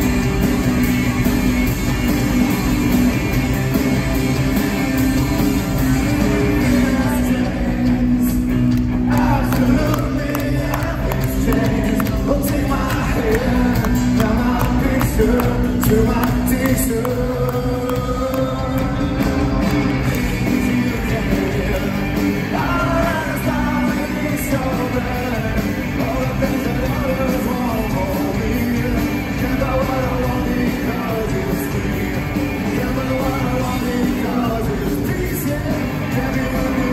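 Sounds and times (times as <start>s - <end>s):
rock band playing live: 0.0s - 36.9s
man singing: 6.0s - 36.9s.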